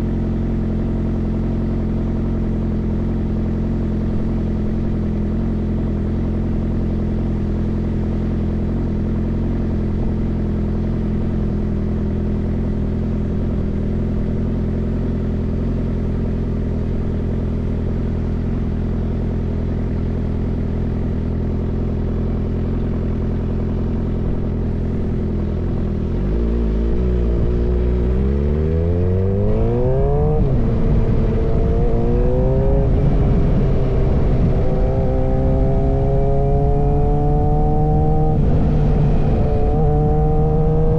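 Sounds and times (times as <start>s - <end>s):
motorcycle exhaust idling and revving: 0.0s - 40.9s.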